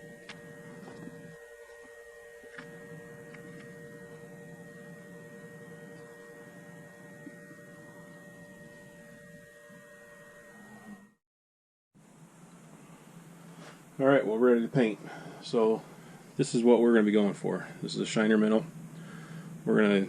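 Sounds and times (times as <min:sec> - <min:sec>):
steady electrical hum: 0:00.0 - 0:11.2, 0:12.0 - 0:20.0.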